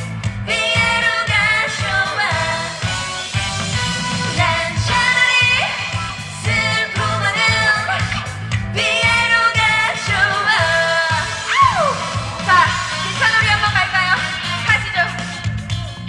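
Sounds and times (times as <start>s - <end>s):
amplified backing track: 0.0s - 16.0s
woman singing live: 0.4s - 2.9s, 4.3s - 15.5s.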